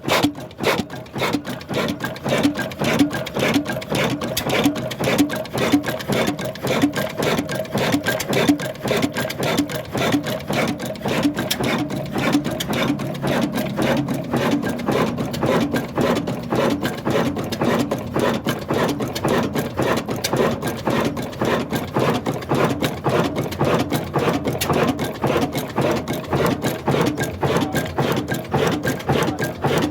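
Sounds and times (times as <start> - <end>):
diesel engine clattering: 0.2 - 29.9.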